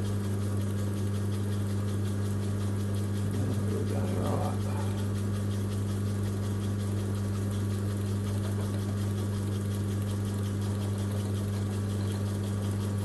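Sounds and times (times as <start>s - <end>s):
lathe motor hum: 0.0s - 13.0s.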